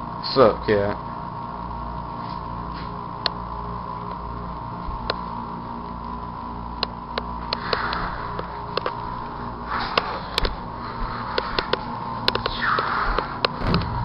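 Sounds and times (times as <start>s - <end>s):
room hum: 0.0s - 14.0s.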